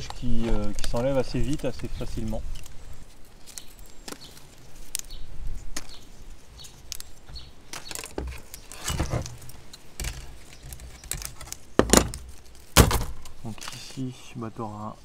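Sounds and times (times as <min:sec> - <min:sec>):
leaves snapping and rustling: 0:00.0 - 0:14.1.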